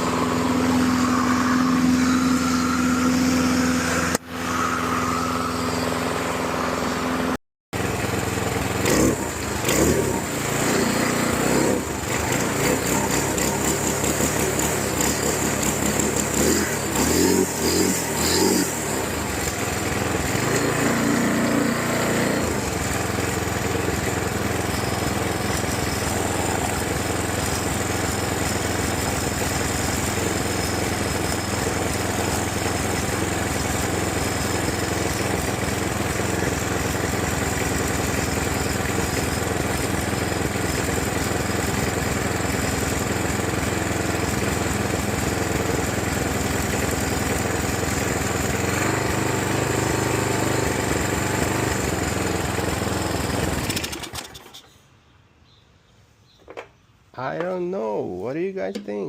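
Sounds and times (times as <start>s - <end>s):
lawn mower engine running: 0.0s - 54.8s.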